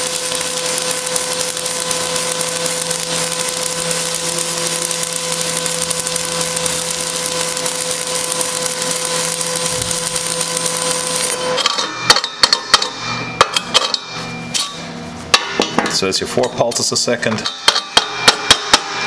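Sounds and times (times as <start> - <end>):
welding arc crackling: 0.0 - 15.4.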